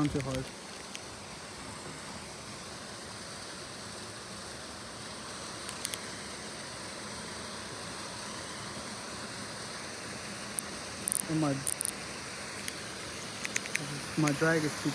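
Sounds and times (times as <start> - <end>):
background hiss: 0.0 - 14.9.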